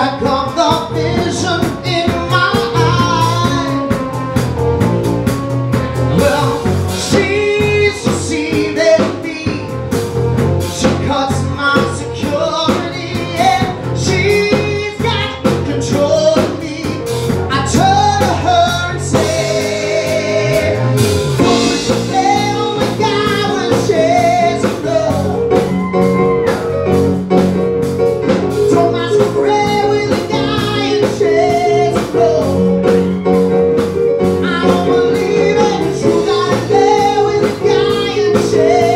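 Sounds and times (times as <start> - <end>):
man singing: 0.0 - 4.1, 6.1 - 10.0, 10.6 - 25.8, 28.6 - 33.3, 34.4 - 38.9
bass guitar: 0.0 - 38.9
drum kit beat: 0.0 - 38.9
keyboards: 0.0 - 38.9.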